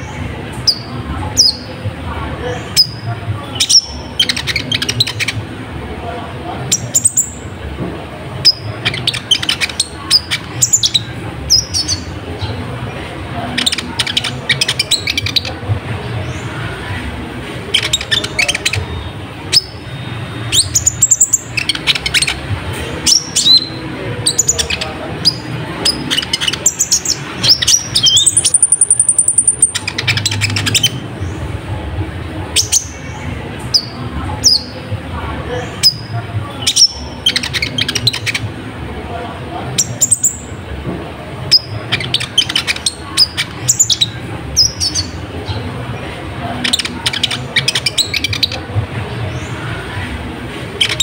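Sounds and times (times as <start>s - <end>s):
bird chirping and trilling: 0.0s - 1.8s, 2.4s - 5.6s, 6.6s - 7.5s, 8.3s - 12.7s, 13.4s - 16.8s, 17.6s - 31.7s, 32.4s - 34.9s, 35.5s - 38.6s, 39.6s - 40.6s, 41.4s - 50.0s, 50.6s - 51.0s.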